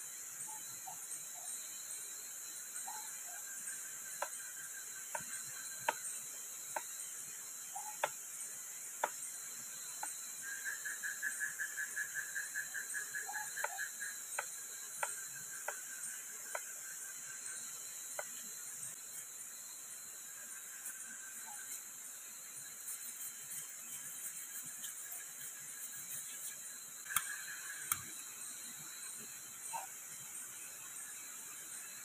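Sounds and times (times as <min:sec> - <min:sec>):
night insects chorus: 0:00.0 - 0:32.0.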